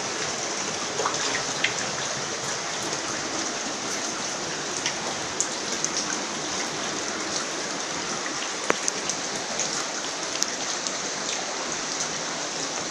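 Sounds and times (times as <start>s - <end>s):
floodwater rushing: 0.0s - 12.9s
small splashes and drips: 0.0s - 12.9s.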